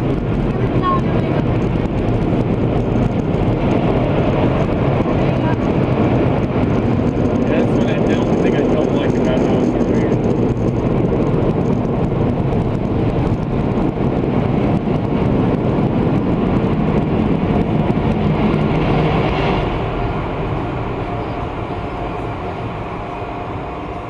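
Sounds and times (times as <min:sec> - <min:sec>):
car wash machinery roaring: 0:00.0 - 0:24.0.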